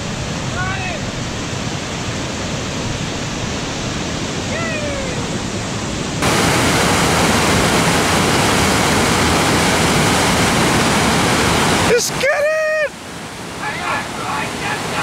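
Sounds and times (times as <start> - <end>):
water rushing down stream cascades: 0.0 - 15.0.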